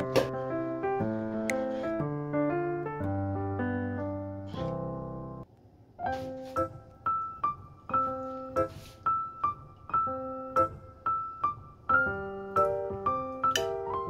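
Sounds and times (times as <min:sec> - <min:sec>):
bouncy electric piano melody: 0:00.0 - 0:14.0.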